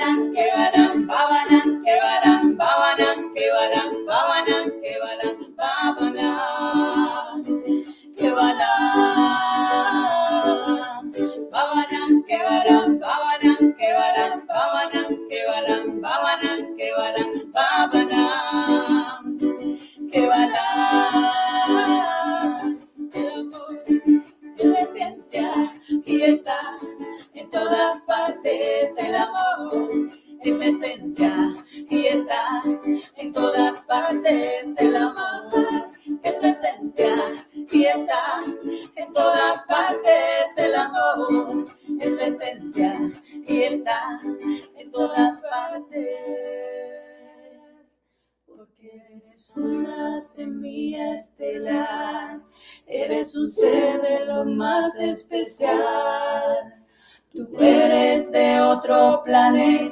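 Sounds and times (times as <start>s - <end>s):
strummed ukulele: 0.0s - 47.6s, 49.3s - 59.9s
women singing together: 0.0s - 47.9s, 48.6s - 59.9s.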